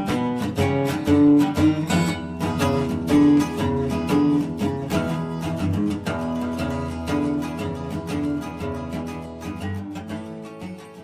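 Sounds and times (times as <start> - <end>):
acoustic guitar plucked and strummed: 0.0 - 11.0.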